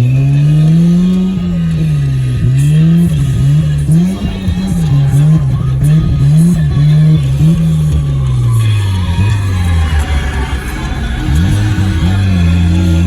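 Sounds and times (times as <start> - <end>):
rotary engine revving: 0.0 - 13.0.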